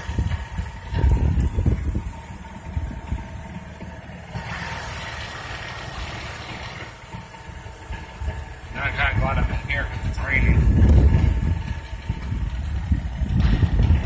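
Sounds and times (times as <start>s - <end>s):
road rumble inside car: 0.0s - 14.0s.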